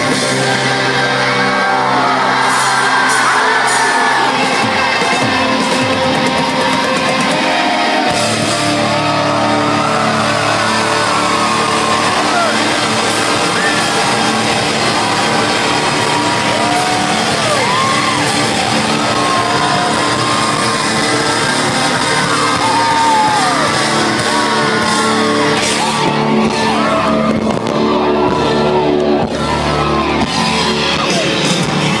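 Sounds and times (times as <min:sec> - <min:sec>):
crowd whooping and shouting: 0:00.0 - 0:32.0
live rock band playing: 0:00.0 - 0:32.0.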